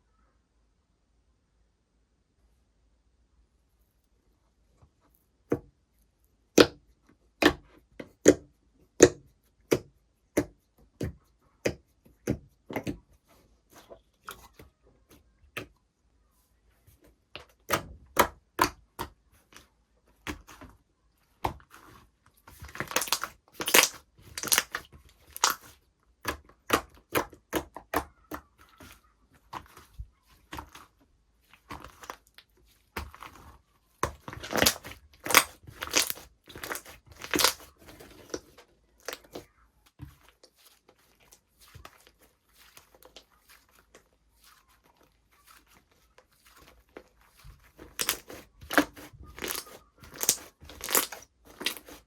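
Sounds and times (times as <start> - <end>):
slime squishing: 5.0 - 52.0.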